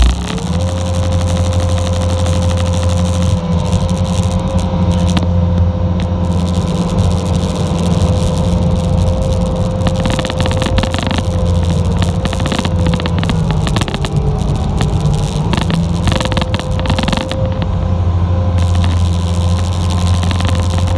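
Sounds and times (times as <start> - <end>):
diesel engine running: 0.0 - 20.9
steady whine: 0.0 - 20.9.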